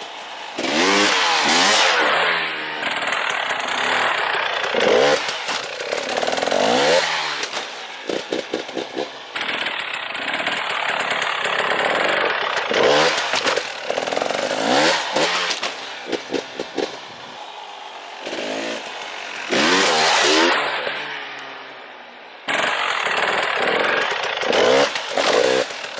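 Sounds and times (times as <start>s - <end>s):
dirt bike engine revving: 0.1s - 25.9s.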